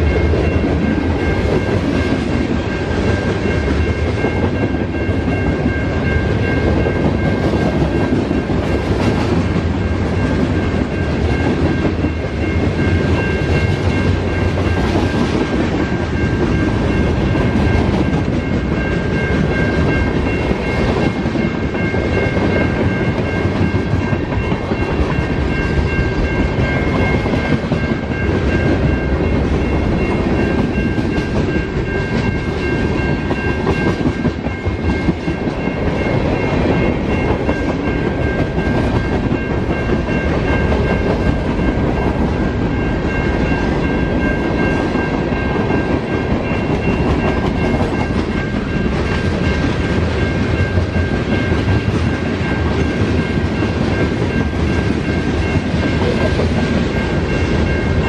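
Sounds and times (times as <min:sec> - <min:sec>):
crossing warning bell ringing: 0:00.0 - 0:58.0
freight train rumbling past: 0:00.0 - 0:58.0.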